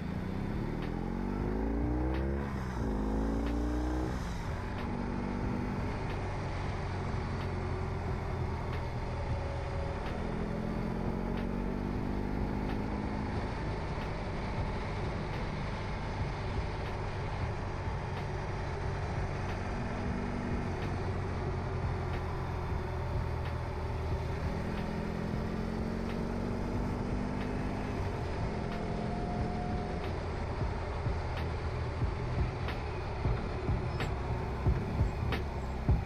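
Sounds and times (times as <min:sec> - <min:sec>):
motorcycle engine running: 0:00.0 - 0:36.0
road and wind noise: 0:00.0 - 0:36.0.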